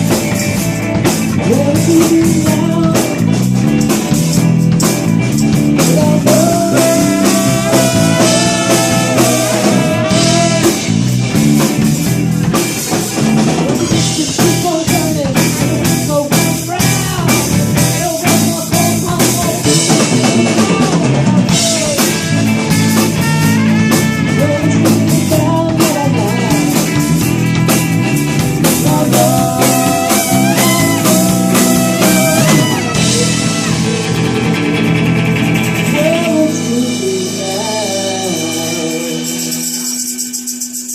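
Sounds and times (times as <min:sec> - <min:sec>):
drum kit beat: 0:00.0 - 0:40.9
guitar: 0:00.0 - 0:40.9
lead melody with bending notes: 0:00.0 - 0:40.9.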